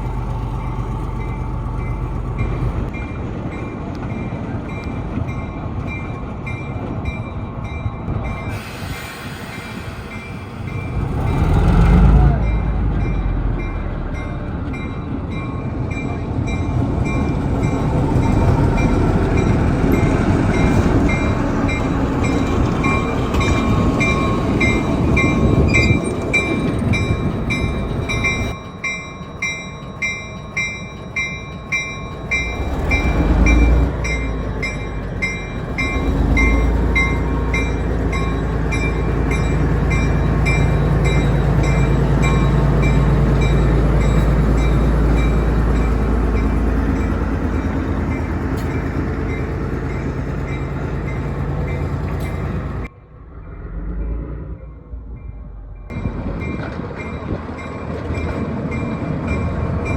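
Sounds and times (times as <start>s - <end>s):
crossing bell ringing: 0.0s - 8.6s, 10.1s - 52.9s, 54.7s - 59.9s
locomotive rumble: 0.0s - 59.9s
train rolling through: 0.0s - 59.9s.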